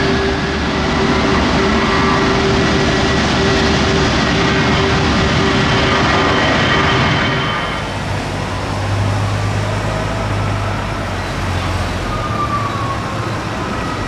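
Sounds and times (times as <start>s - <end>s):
aircraft machinery hum: 0.0s - 14.0s.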